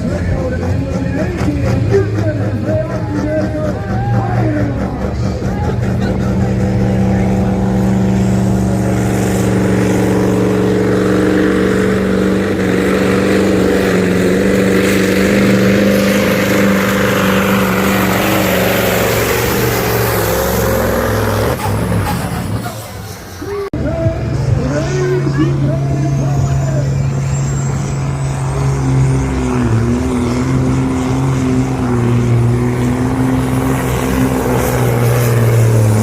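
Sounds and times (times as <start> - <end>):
truck engine at high revs: 0.0 - 36.0.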